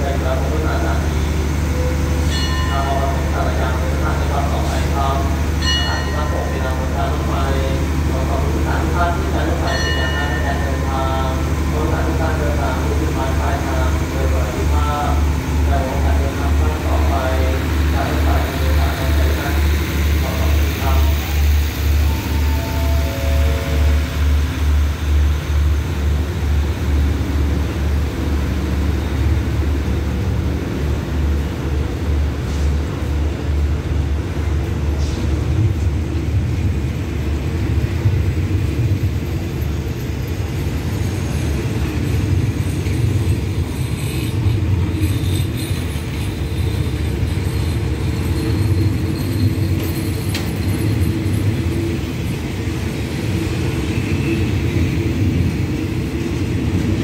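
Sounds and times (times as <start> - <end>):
train coaches rumbling on track: 0.0 - 57.0.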